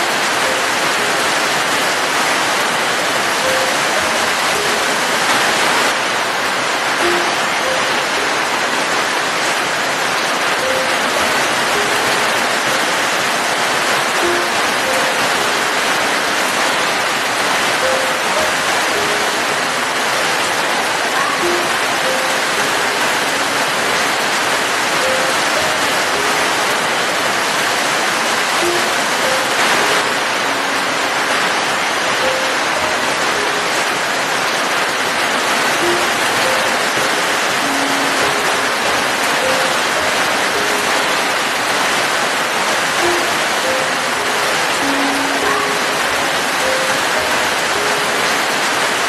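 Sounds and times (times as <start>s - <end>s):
soft relaxing music: 0.0s - 49.0s
steady rain hiss: 0.0s - 49.0s.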